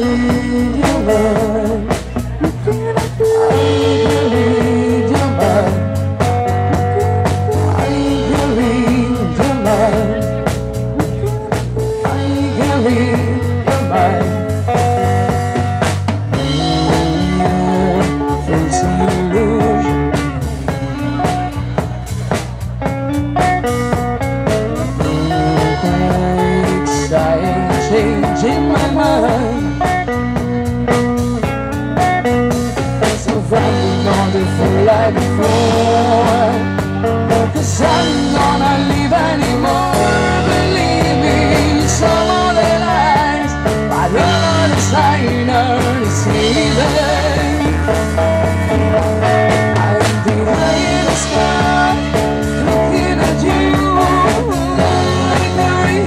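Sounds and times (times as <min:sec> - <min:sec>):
woman singing: 0:00.0 - 0:14.6, 0:16.4 - 0:20.3, 0:24.8 - 0:30.5, 0:33.0 - 0:48.3, 0:49.3 - 0:56.0
drum kit: 0:00.0 - 0:56.0
electric guitars: 0:00.0 - 0:56.0.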